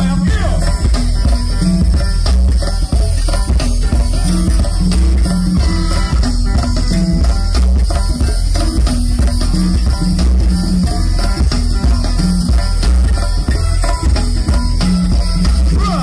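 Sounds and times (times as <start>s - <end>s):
drum kit beat: 0.0s - 16.0s
guitar: 0.0s - 16.0s
repeating bass line: 0.0s - 16.0s.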